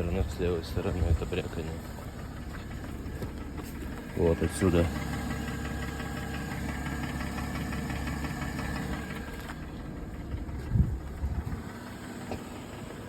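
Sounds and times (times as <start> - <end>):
car engine idling with knock: 0.0 - 13.0.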